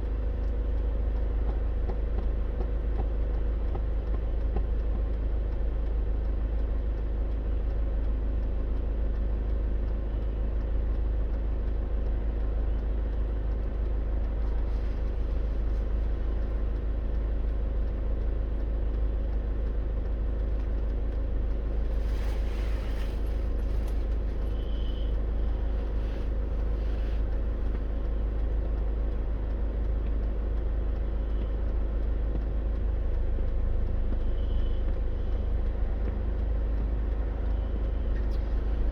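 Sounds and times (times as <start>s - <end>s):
car cabin road and engine rumble: 0.0s - 38.9s.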